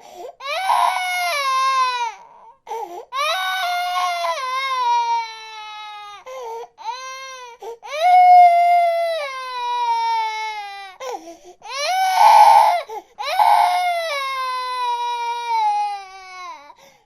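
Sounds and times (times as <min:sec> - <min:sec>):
infant crying: 0:00.0 - 0:16.8.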